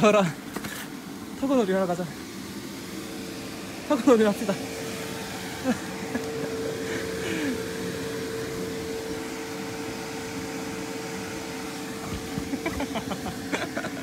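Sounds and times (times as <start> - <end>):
electric air blower humming: 0.0 - 14.0.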